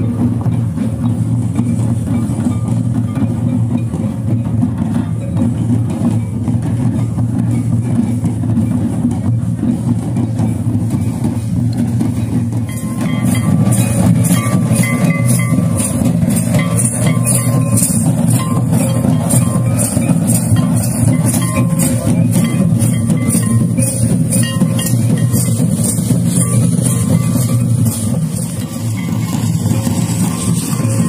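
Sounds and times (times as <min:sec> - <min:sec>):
low drumming: 0:00.0 - 0:31.0.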